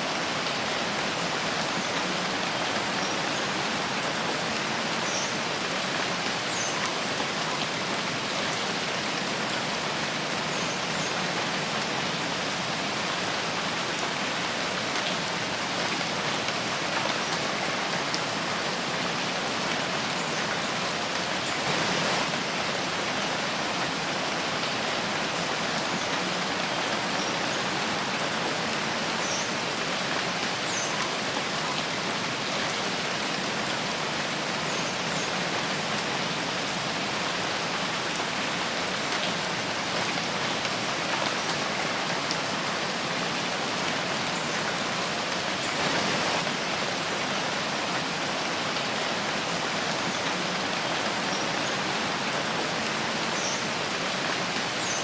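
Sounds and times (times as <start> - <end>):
rain falling in a forest: 0.0 - 55.0.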